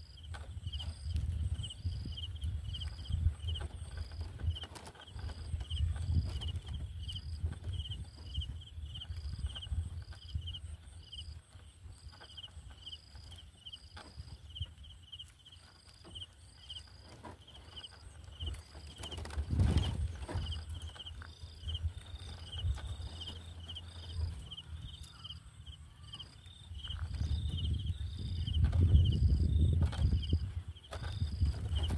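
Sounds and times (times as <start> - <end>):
low wind rumble: 0.0 - 15.2, 17.6 - 31.9
rustle: 0.0 - 31.9.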